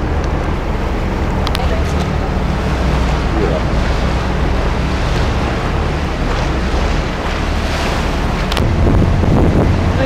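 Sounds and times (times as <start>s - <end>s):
boat engine droning: 0.0s - 10.0s
water noise: 0.0s - 10.0s
wind on microphone: 0.0s - 10.0s.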